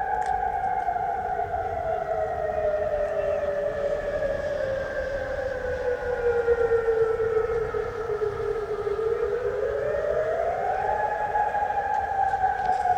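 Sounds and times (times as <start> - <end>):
warning siren wailing: 0.0 - 12.9.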